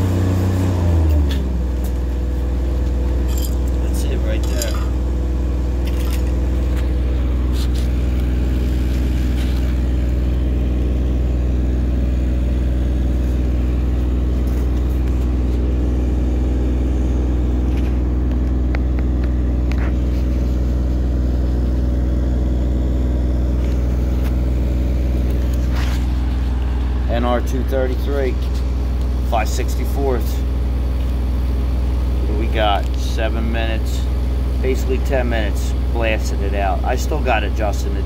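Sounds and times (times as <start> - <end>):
engine humming steadily: 0.0 - 38.0.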